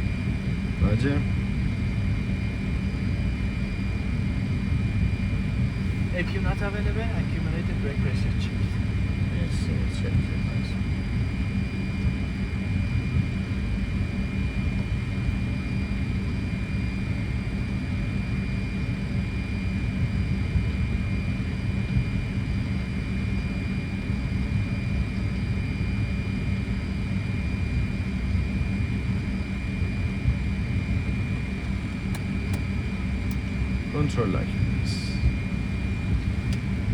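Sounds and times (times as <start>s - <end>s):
airplane engines taxiing: 0.0s - 36.9s
high engine whine: 0.0s - 36.9s.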